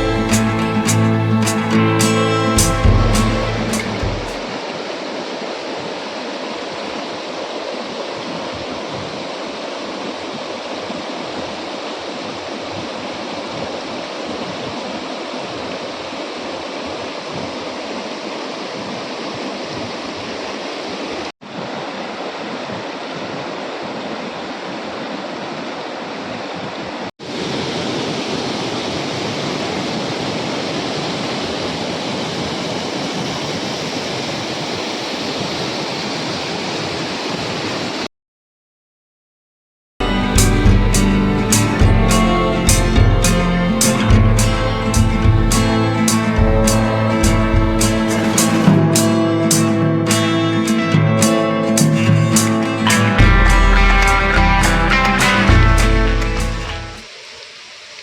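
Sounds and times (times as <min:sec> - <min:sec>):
waterfall rushing: 0:00.0 - 0:26.6, 0:27.2 - 0:38.1, 0:40.0 - 0:58.0.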